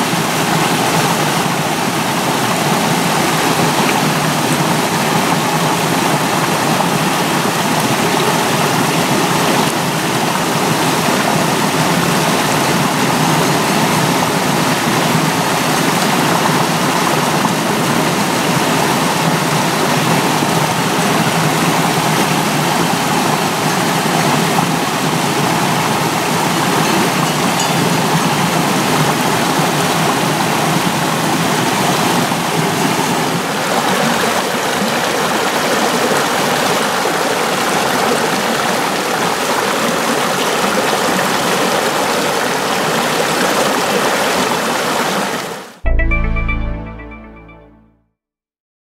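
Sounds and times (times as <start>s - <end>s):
stream splashing over rocks: 0.0s - 45.7s.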